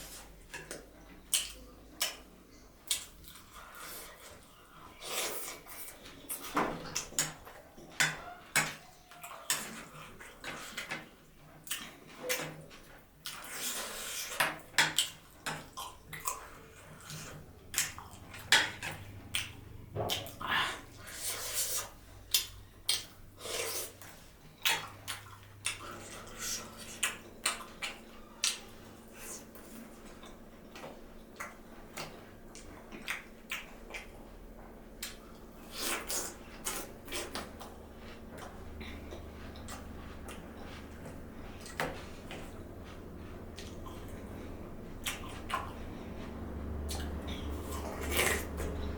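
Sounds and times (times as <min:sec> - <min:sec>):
wet chewing: 0:00.0 - 0:48.9.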